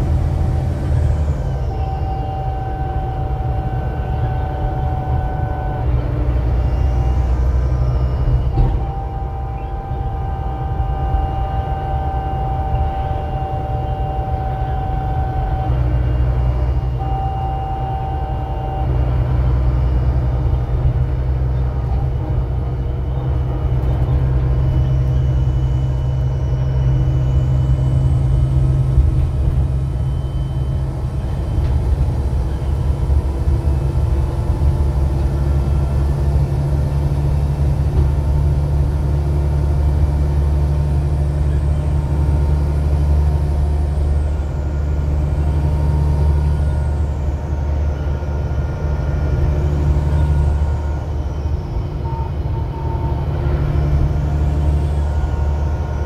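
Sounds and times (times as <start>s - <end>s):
bus engine low drone: 0.0s - 56.0s
faint high whine: 0.0s - 56.0s.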